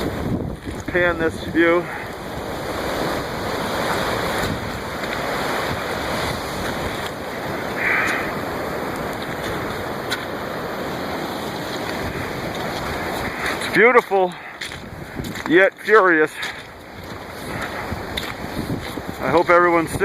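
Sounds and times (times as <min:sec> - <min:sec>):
breaking waves: 0:00.0 - 0:20.0
wind blowing: 0:00.0 - 0:20.0
wind buffeting microphone: 0:00.0 - 0:20.0.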